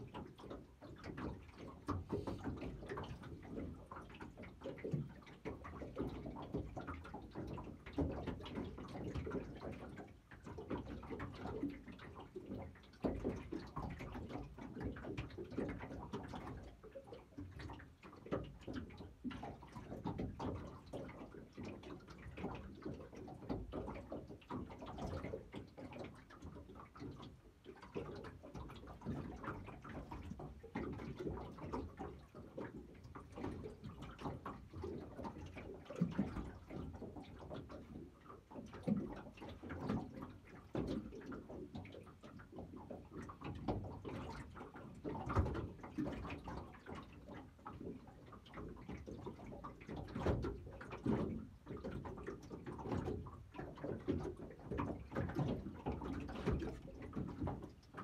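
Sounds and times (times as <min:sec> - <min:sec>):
water lapping against boat hull: 0:00.0 - 0:58.0.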